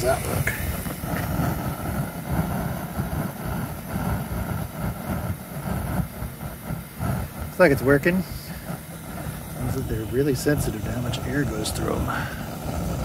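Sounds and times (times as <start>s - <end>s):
hiss of gas and air: 0.0s - 13.0s
propane burner rumbling: 0.0s - 13.0s.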